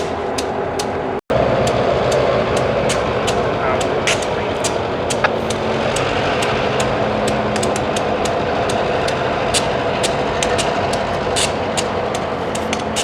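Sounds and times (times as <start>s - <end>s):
diesel locomotive engine idling: 0.0s - 13.0s
sharp clicks: 1.6s - 13.0s.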